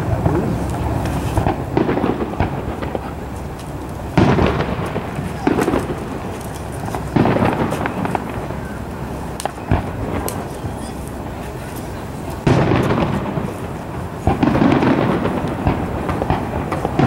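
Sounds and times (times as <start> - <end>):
firework booms: 0.0 - 17.0
firework crackling: 0.0 - 17.0.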